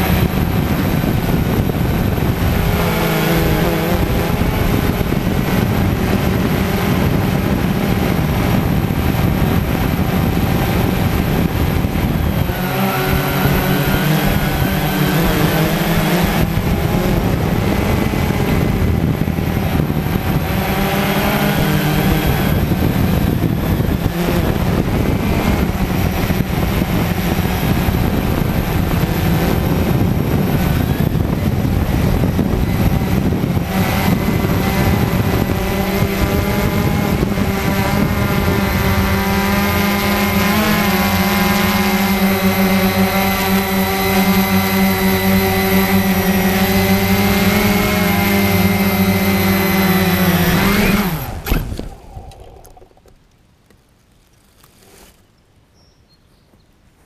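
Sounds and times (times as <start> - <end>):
rushing wind noise: 0.0 - 53.1
drone motors whining: 0.0 - 53.2.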